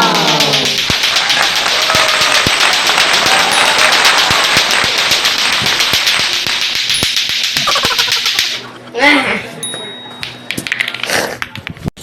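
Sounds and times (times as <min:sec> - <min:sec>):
clacker toy balls clacking: 0:00.0 - 0:08.6, 0:10.2 - 0:11.8.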